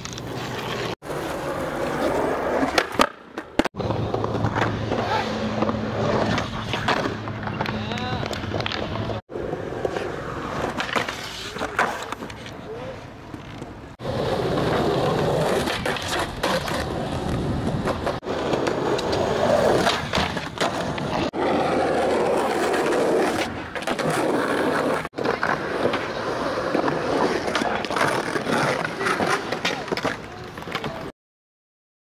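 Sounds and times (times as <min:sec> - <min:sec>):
skateboard wheels rolling on concrete: 0:00.0 - 0:31.1.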